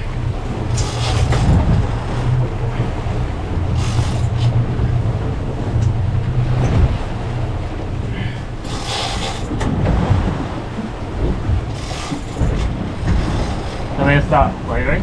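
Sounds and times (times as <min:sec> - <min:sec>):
boat engine droning: 0:00.0 - 0:15.0
water noise: 0:00.0 - 0:15.0
wind: 0:00.0 - 0:15.0.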